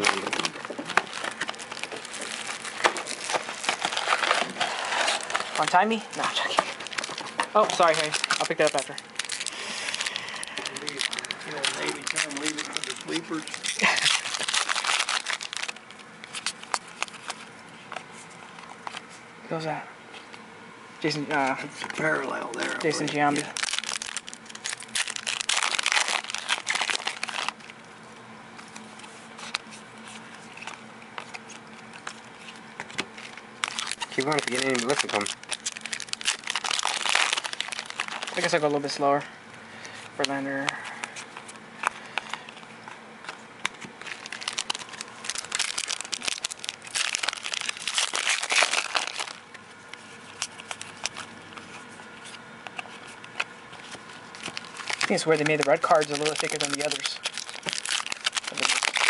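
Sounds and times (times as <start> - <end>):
foil wrapper crinkling and tearing: 0.0 - 17.5, 22.0 - 27.8, 28.6 - 39.2, 39.8 - 59.0
cards being shuffled: 0.0 - 19.2, 28.6 - 39.0, 40.0 - 59.0.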